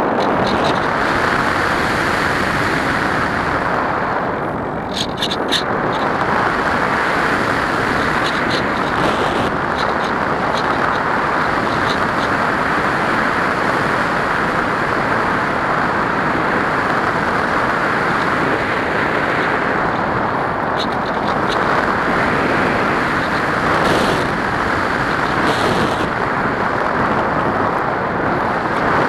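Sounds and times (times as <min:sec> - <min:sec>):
wind rushing over camera: 0:00.0 - 0:29.0.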